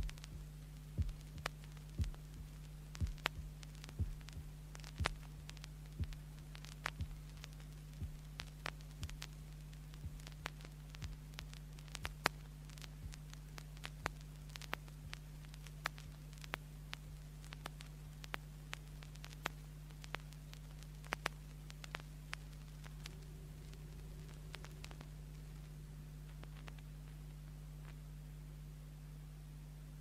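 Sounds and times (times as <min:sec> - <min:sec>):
steady low hum: 0:00.0 - 0:30.0
vinyl record clicks and crackle: 0:00.0 - 0:30.0.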